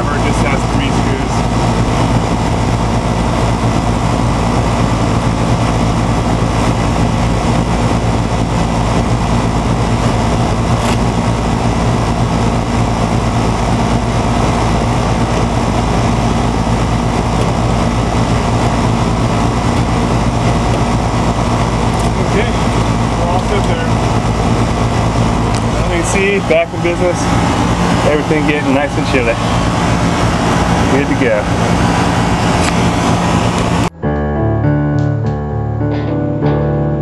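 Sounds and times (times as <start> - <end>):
air conditioner fan and compressor humming: 0.0 - 34.0.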